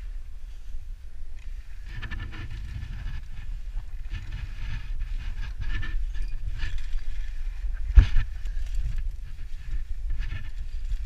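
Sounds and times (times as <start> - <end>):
wind buffeting microphone: 0.0 - 11.0
clothing and gear scraping on rock: 1.8 - 11.0.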